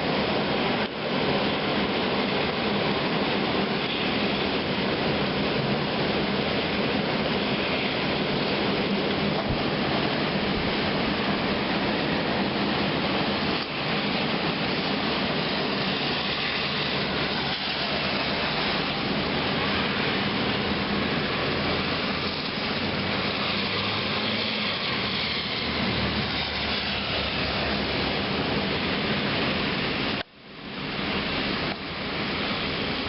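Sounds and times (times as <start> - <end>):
heavy rain: 0.0 - 33.0
wind: 0.0 - 33.0.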